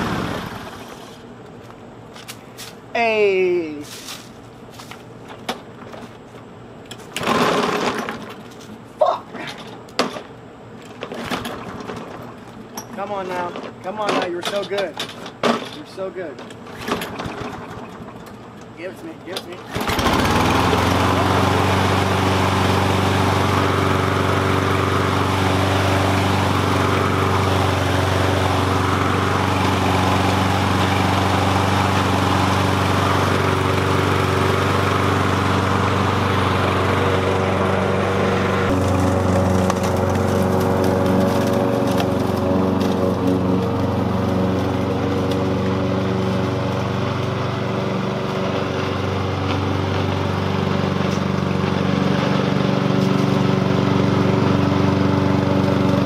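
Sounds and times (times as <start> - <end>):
lawn mower running: 0.0 - 1.4, 5.1 - 8.8, 10.6 - 56.0.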